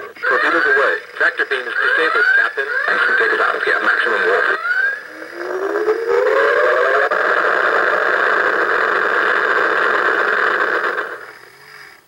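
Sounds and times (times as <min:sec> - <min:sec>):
steady electronic hum: 0:00.0 - 0:12.0
rising electronic whine: 0:00.8 - 0:11.8.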